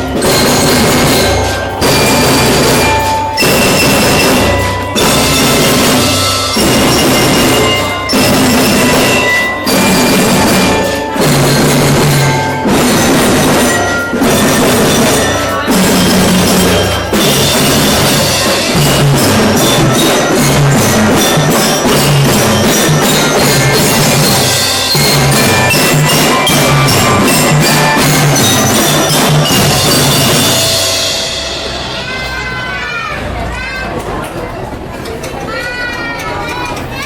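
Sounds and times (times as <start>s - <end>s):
rapid steady drumming: 0.0s - 33.3s
bell-lyre melody: 0.0s - 33.7s.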